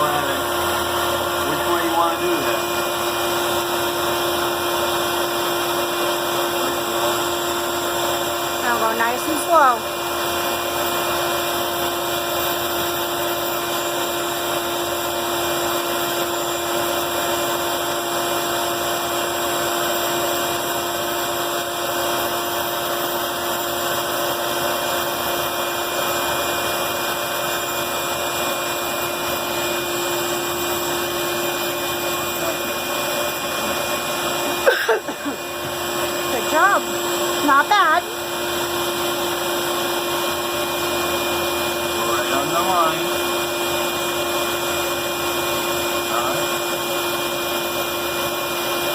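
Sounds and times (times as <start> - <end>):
band saw cutting wood: 0.0 - 48.9.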